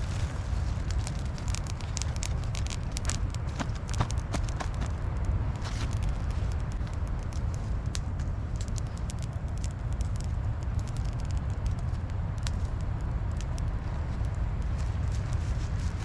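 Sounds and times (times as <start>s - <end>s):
wind rumble on microphone: 0.0s - 16.0s
wood fire crackling: 0.0s - 16.0s.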